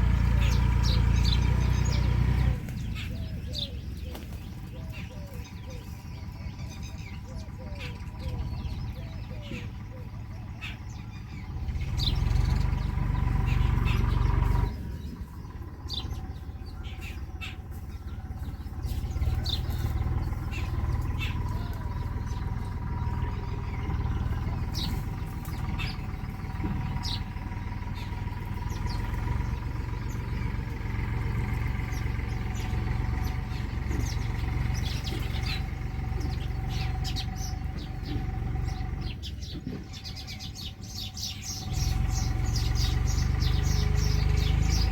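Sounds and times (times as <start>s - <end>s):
steady low rumble: 0.0s - 44.8s
small birds chirping: 0.0s - 44.9s.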